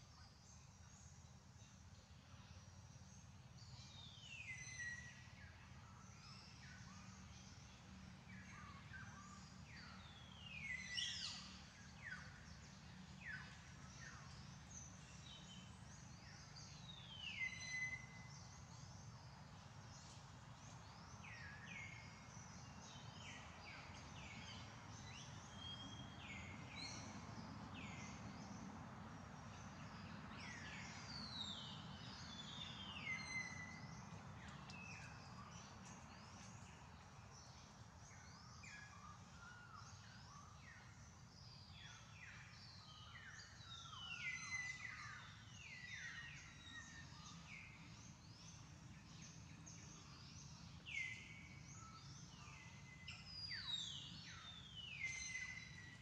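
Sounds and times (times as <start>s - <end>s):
low steady background rumble: 0.0s - 56.0s.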